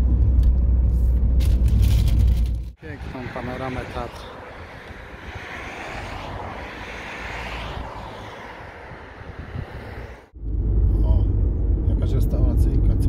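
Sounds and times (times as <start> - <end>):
car driving rumble: 0.0 - 13.0
wind and road noise: 0.0 - 13.0.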